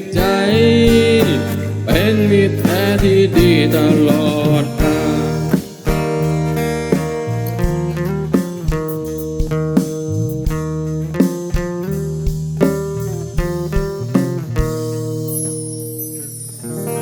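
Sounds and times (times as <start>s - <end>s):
bass guitar line: 0.0s - 17.0s
guitar picking notes: 0.0s - 17.0s.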